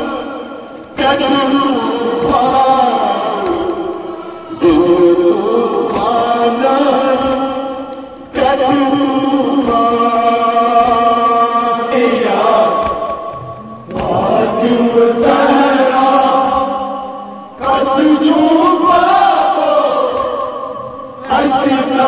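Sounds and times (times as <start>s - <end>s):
crowd of men chanting: 0.0s - 22.0s
man chanting into microphone: 0.0s - 22.0s.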